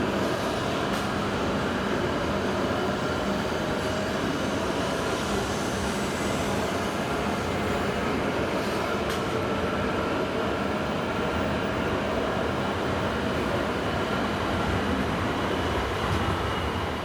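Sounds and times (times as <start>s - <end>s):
train rushing: 0.0s - 10.4s, 12.7s - 17.0s.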